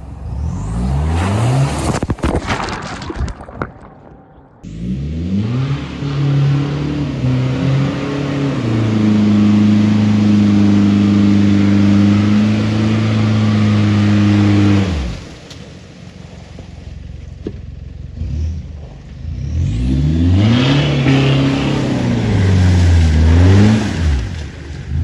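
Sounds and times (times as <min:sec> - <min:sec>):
diesel engine revving: 0:00.0 - 0:02.0, 0:04.6 - 0:25.0.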